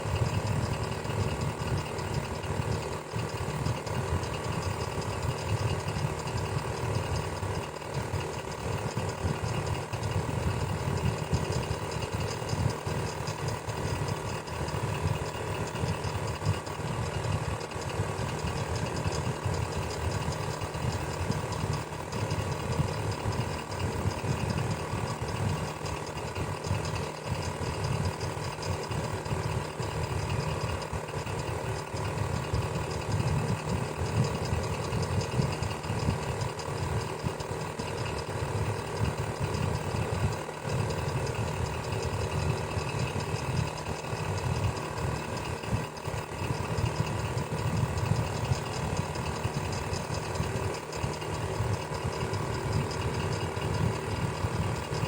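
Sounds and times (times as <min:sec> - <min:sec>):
electric fan whirring: 0:00.0 - 0:55.0.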